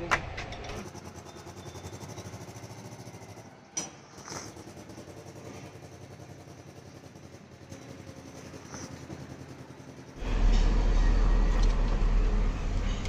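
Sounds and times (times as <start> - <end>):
engine running: 0.2 - 13.0.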